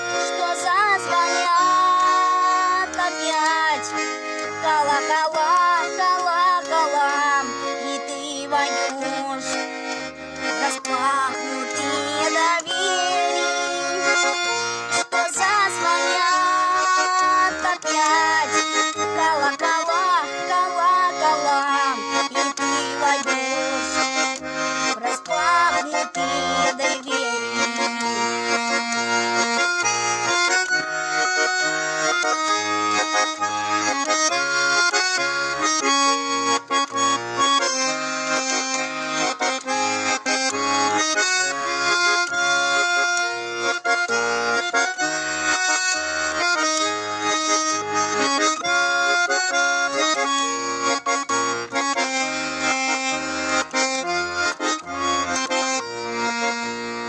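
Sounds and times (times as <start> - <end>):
button accordion folk melody: 0.0 - 57.0.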